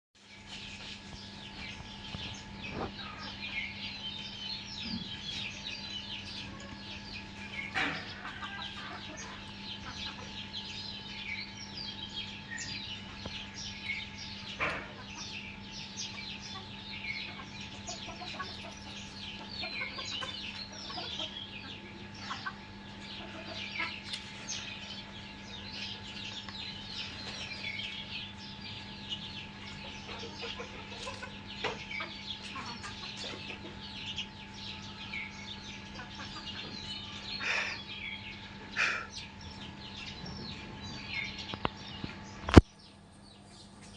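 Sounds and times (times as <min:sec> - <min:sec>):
chicks peeping: 0:00.2 - 0:43.9
steady low hum: 0:00.2 - 0:43.9.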